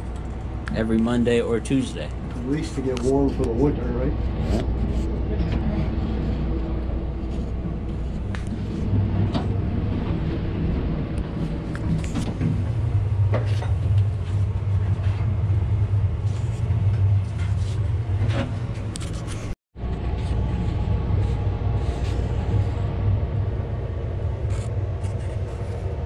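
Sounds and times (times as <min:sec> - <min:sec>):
low machinery drone: 0:00.0 - 0:26.0.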